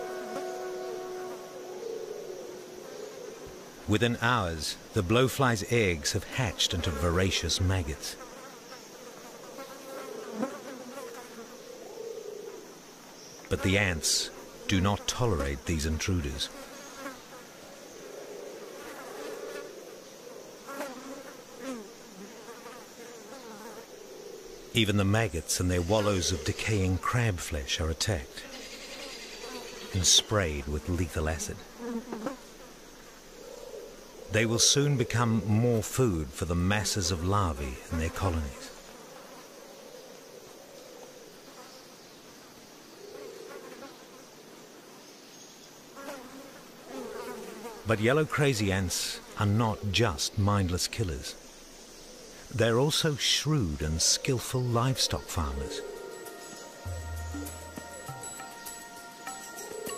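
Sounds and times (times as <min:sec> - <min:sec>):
flies buzzing: 0:00.0 - 0:45.0, 0:45.7 - 0:59.9.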